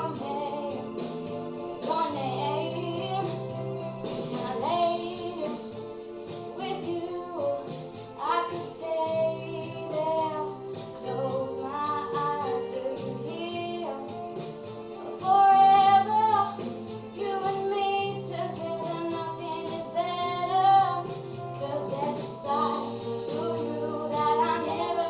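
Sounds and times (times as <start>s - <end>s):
girl singing a pop ballad: 0.0s - 25.0s
instrumental backing track: 0.0s - 25.0s.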